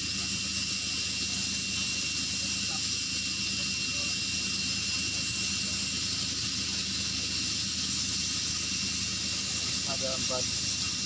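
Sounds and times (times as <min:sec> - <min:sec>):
helicopter turbine whine: 0:00.0 - 0:11.0.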